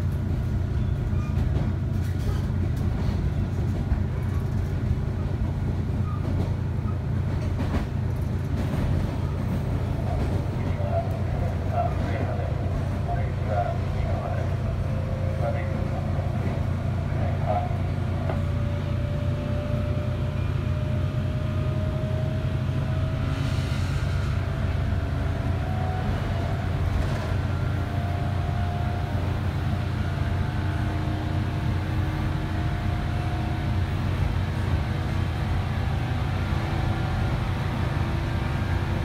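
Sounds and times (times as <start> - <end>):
train interior rumble: 0.0 - 39.0.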